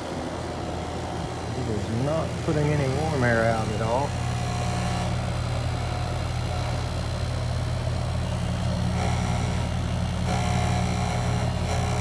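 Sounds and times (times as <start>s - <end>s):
heat pump unit humming: 0.0s - 12.0s.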